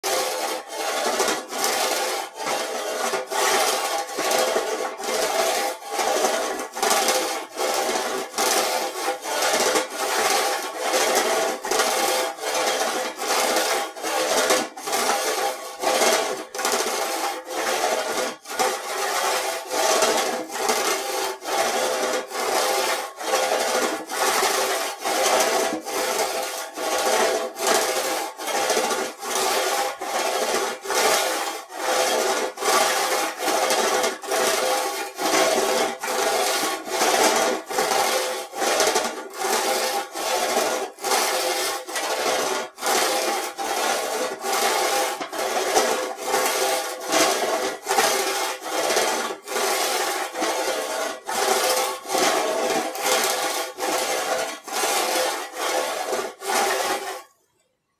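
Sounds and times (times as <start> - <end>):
sheet metal scraping against metal: 0.0 - 57.3.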